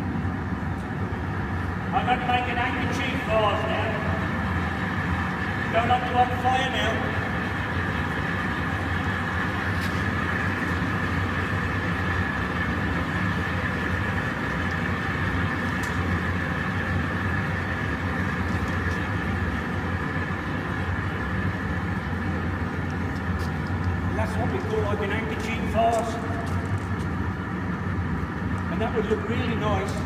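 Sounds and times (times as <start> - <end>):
furnace burner roaring: 0.0 - 30.0.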